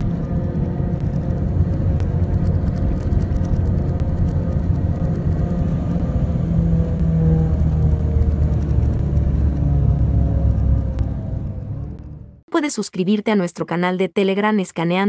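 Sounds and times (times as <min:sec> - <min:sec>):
held low tones: 0:00.0 - 0:12.4
vehicle rumble: 0:00.0 - 0:12.5.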